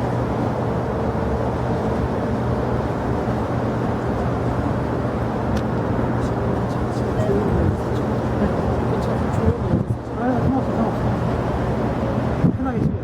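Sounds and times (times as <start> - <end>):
jet airliner engine rumble: 0.0 - 13.0.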